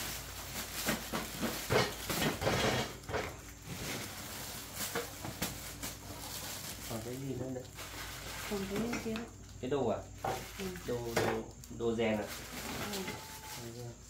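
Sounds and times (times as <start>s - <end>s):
knocks and rustling clatter: 0.0s - 6.9s, 7.7s - 9.4s, 10.1s - 11.6s, 12.2s - 13.7s
steady hiss: 0.0s - 12.5s.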